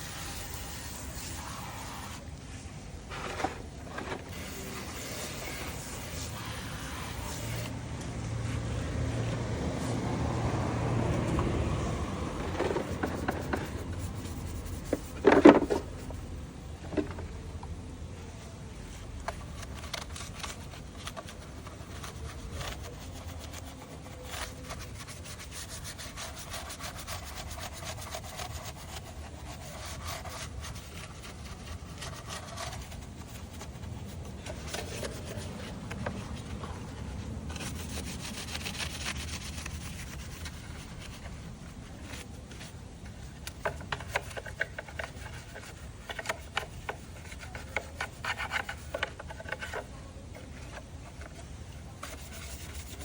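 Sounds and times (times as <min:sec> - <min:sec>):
hand tool rubbing and scraping: 0:00.0 - 0:02.3, 0:03.0 - 0:07.8, 0:12.4 - 0:16.3, 0:19.4 - 0:49.9, 0:50.6 - 0:53.0.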